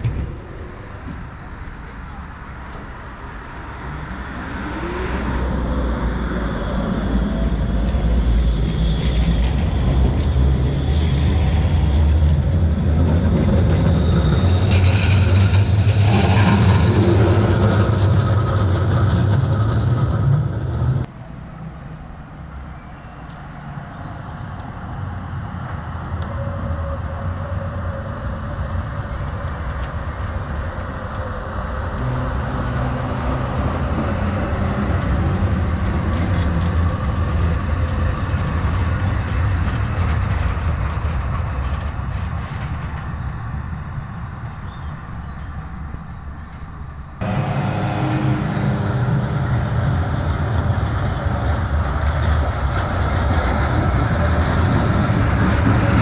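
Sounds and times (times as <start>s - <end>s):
tram passing by: 0.0s - 56.0s.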